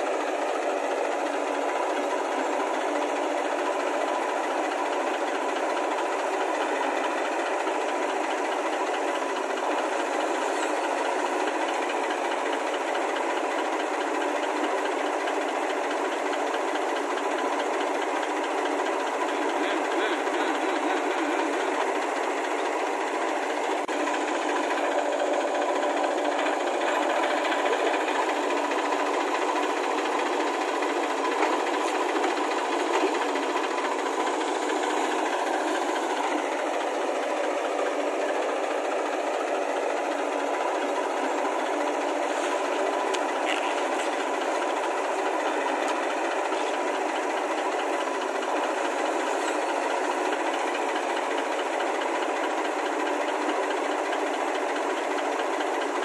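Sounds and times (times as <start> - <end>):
small engine running with rattle: 0.0 - 56.0.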